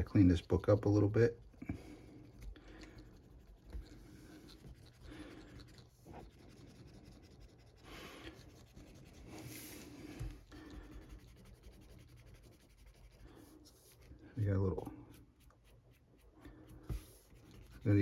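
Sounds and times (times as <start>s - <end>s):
eraser rubbing on paper: 0.0s - 18.0s.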